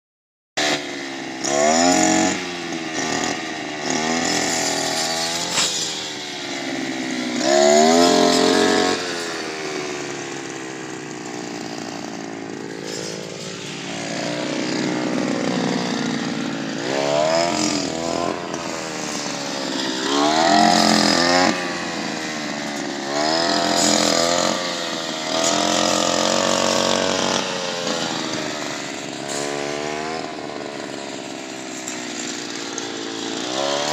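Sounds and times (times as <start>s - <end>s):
harvester engine revving: 1.4s - 33.9s.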